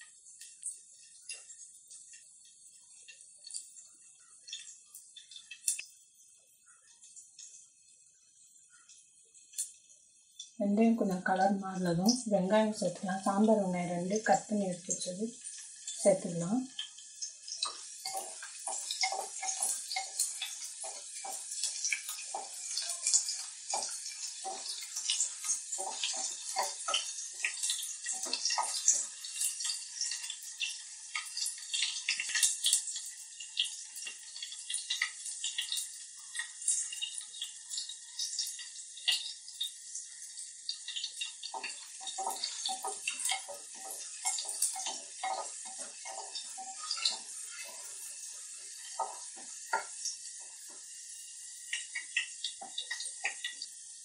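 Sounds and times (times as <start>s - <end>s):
shallots sizzling in hot oil: 0.0s - 54.0s.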